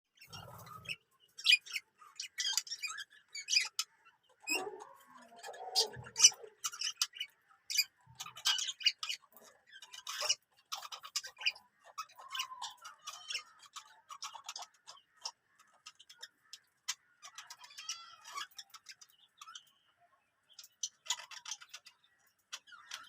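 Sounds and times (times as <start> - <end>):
birds chirping: 0.1 - 23.0.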